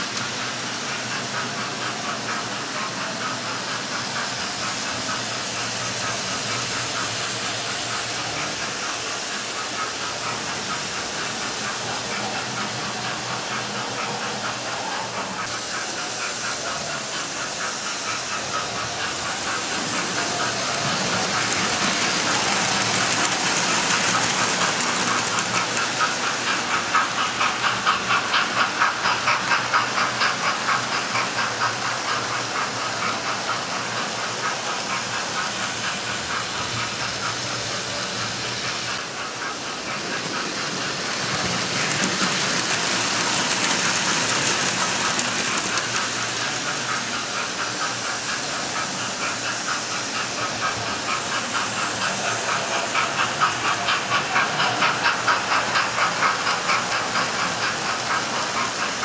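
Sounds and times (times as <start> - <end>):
model steam locomotive hiss and chuff: 0.0 - 59.0
model trains clattering on track: 0.0 - 59.0.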